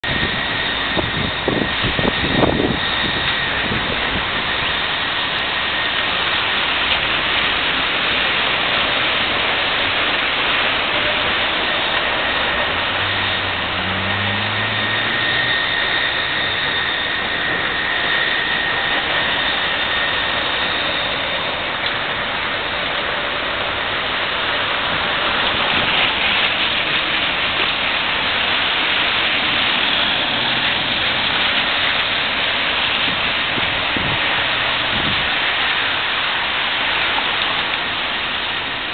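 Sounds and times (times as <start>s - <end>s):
rain: 0.0s - 38.9s
street traffic: 0.0s - 38.9s
vehicle engine humming: 0.0s - 38.9s.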